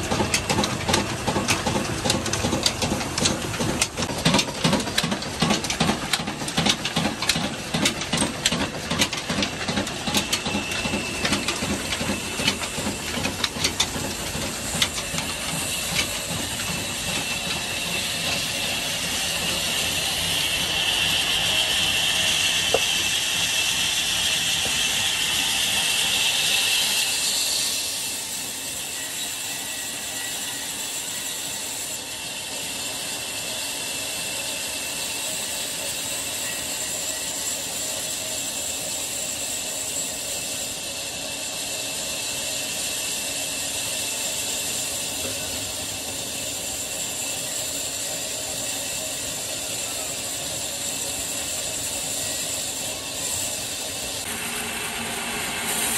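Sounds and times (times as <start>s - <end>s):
band saw cutting log: 0.0s - 55.9s.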